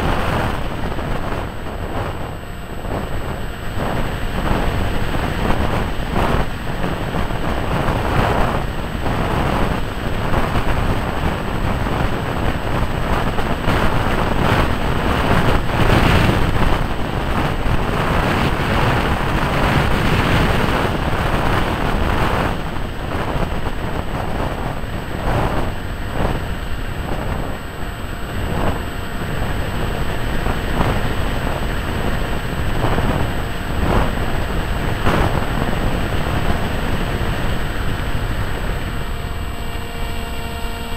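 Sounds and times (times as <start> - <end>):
model plane motor and propeller: 0.0 - 40.9
wind rushing over microphone: 0.0 - 40.9.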